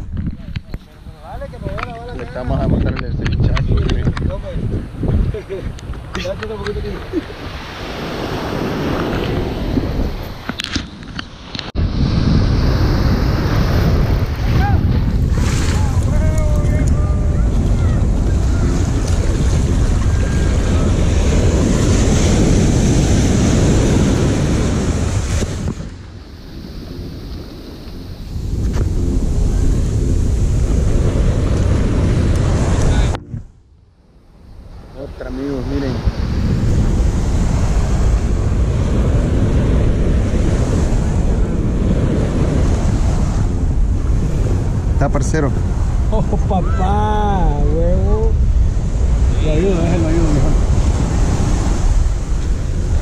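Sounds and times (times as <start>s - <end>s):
wind buffeting microphone: 0.0s - 53.0s
surf breaking on sand: 3.4s - 33.2s, 34.5s - 53.0s.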